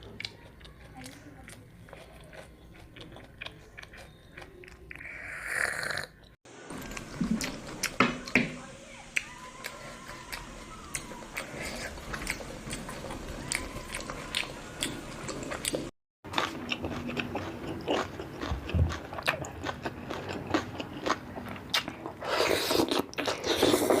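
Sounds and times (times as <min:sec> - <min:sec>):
person chewing crunchy food: 0:00.0 - 0:08.3, 0:09.2 - 0:24.0.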